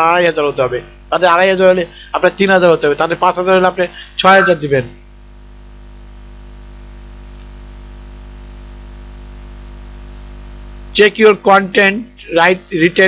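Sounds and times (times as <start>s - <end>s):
electrical mains hum: 0.0s - 13.0s
microphone hiss: 0.0s - 13.0s.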